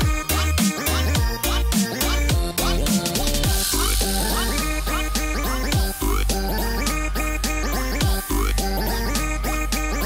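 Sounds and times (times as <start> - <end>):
bass and synth music with beat: 0.0 - 10.0.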